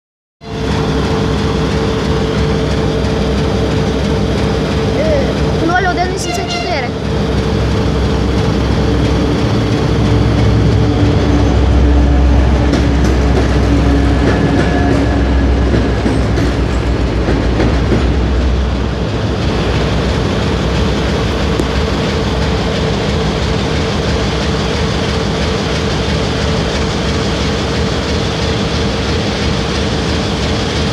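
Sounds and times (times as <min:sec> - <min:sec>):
diesel locomotive engine drone: 0:00.4 - 0:30.9
train wheels clacking over rail joints: 0:00.6 - 0:30.9.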